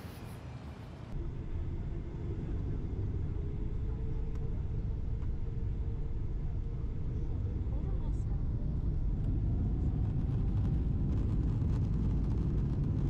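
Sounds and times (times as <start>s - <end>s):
faint outdoor ambience: 0.0s - 13.0s
airliner cabin rumble: 1.1s - 13.0s.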